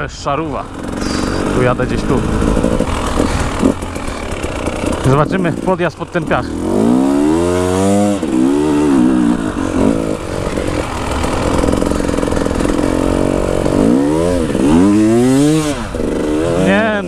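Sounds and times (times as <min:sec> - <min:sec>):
two-stroke engine revving: 0:00.0 - 0:17.0.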